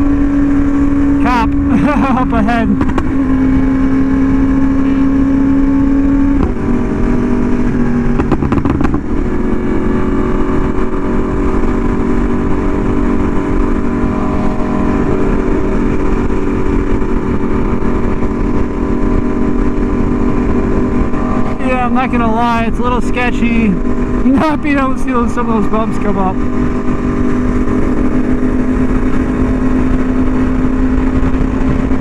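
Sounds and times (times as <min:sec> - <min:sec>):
motorcycle engine at highway speed: 0:00.0 - 0:32.0.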